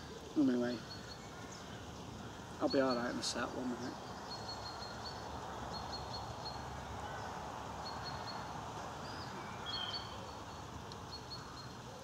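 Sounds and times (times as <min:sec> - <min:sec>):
bird chirping: 0:00.0 - 0:12.0
outdoor background rush: 0:00.0 - 0:12.0.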